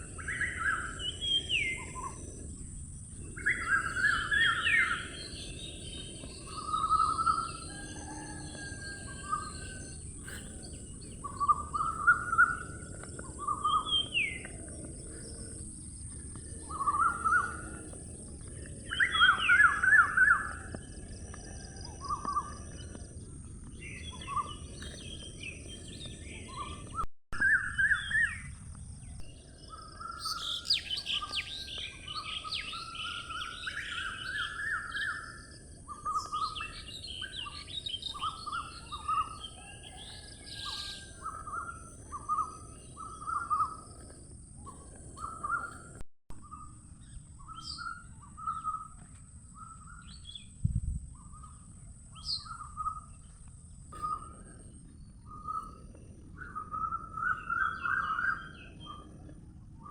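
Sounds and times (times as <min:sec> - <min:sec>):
birds chirping and singing: 0:00.0 - 0:59.3.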